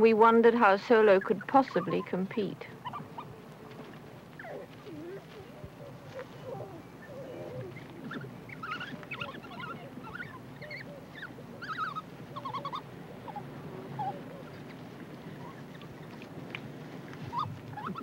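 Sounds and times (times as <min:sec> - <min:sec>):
wild dog pups twittering and squeaking: 0:01.1 - 0:18.0.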